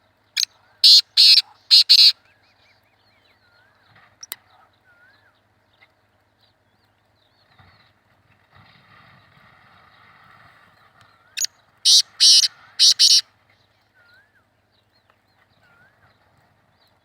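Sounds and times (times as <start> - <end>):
low rumble with hiss: 0.0 - 17.0.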